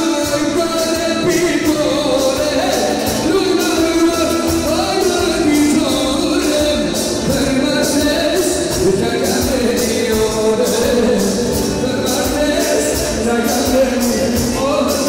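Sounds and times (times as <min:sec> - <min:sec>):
band playing with steady beat: 0:00.0 - 0:15.0
man singing into microphone: 0:00.0 - 0:15.0.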